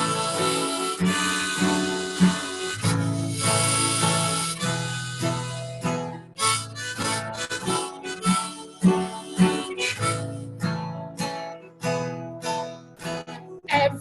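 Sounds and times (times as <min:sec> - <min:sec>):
harmonica playing: 0:00.0 - 0:13.7
strummed acoustic guitar: 0:00.0 - 0:14.0.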